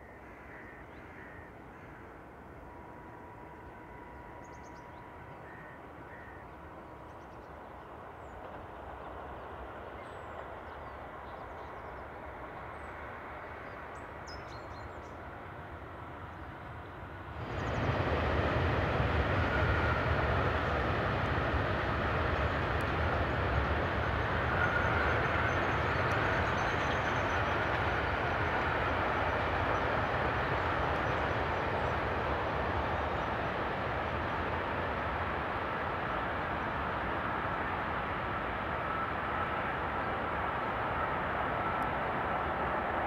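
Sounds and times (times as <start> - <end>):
train wheels rumbling on rail: 2.8 - 43.0.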